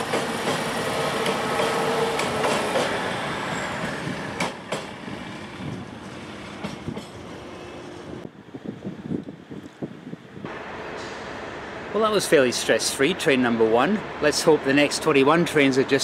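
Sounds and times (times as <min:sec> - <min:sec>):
train crossing steel bridge: 0:00.0 - 0:16.0.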